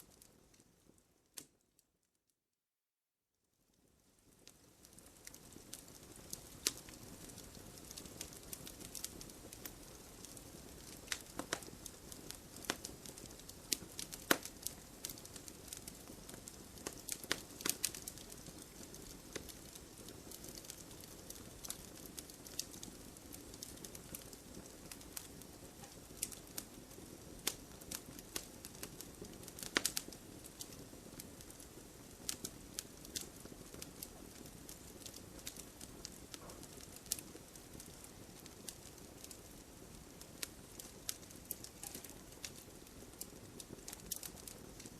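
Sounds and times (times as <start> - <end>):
campfire crackling: 0.0 - 1.5, 3.8 - 44.9.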